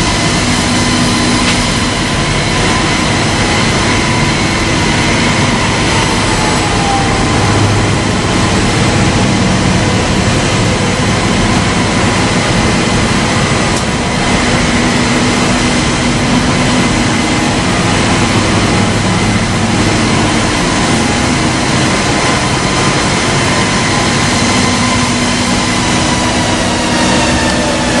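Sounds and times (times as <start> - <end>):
belt sander running with whine: 0.0 - 28.0.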